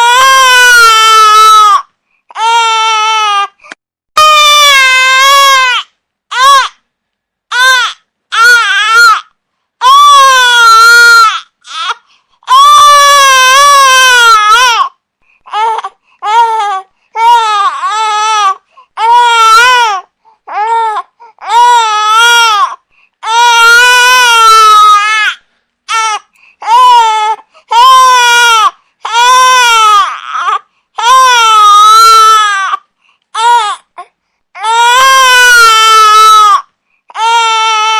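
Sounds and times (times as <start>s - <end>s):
infant crying: 0.0s - 3.6s, 4.2s - 6.8s, 7.5s - 37.9s.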